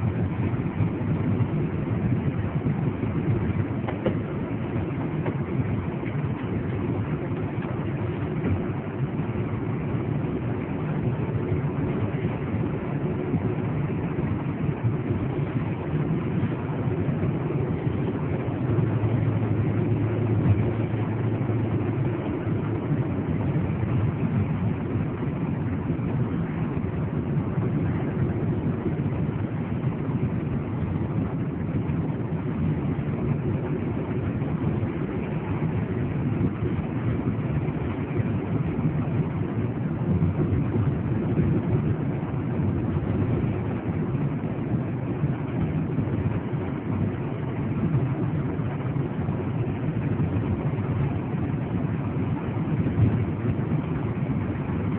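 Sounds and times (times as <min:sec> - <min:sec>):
car engine and tyre drone: 0:00.0 - 0:54.9.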